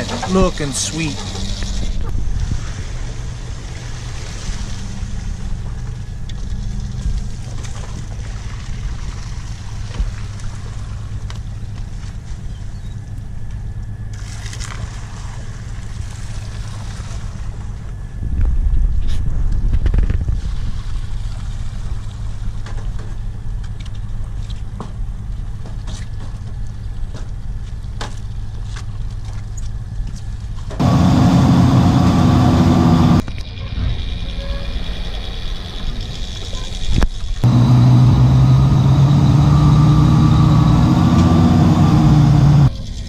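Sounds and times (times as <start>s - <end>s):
boat engine and hauler drone: 0.0s - 43.0s.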